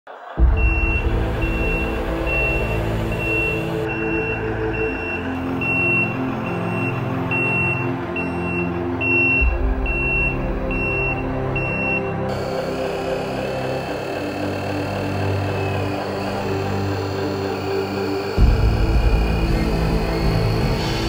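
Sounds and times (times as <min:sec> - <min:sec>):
low diesel engine rumble: 0:00.1 - 0:21.0
electronic reverse-warning beeps: 0:00.4 - 0:21.0.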